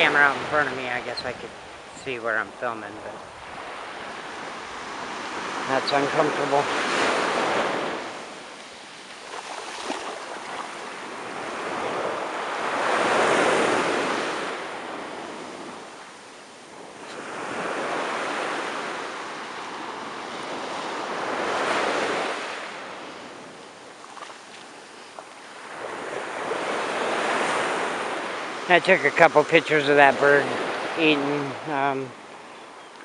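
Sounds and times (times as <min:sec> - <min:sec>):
ocean waves breaking: 0:00.0 - 0:33.0.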